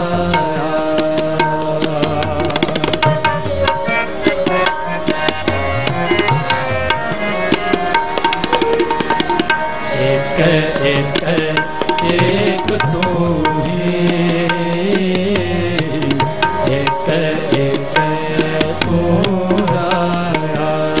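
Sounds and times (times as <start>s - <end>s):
held harmonium notes: 0.0s - 21.0s
tabla playing rapid rhythm: 0.0s - 21.0s.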